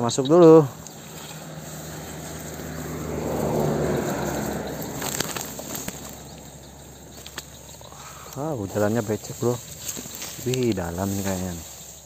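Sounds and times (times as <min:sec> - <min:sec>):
footsteps through tall grass: 0:00.0 - 0:12.0
stems snapping: 0:00.7 - 0:11.8.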